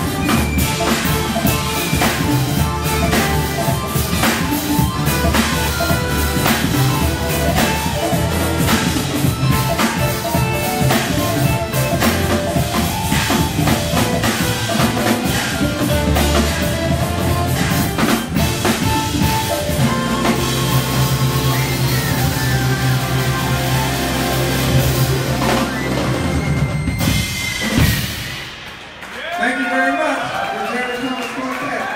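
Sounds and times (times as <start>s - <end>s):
electric guitar: 0.0s - 27.2s
bass guitar: 0.0s - 28.0s
organ and keyboard chords: 0.0s - 28.3s
drum kit hits: 0.0s - 29.0s.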